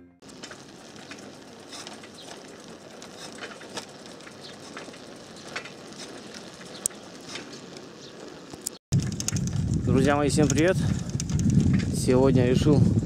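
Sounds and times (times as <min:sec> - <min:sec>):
bicycle clicks and rattles: 0:00.2 - 0:12.8
bicycle tyre road noise: 0:00.2 - 0:13.0.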